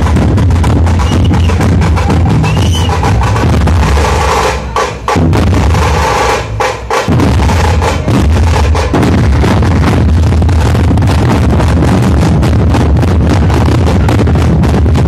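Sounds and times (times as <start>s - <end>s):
barrel drums beaten with sticks: 0.0s - 15.0s.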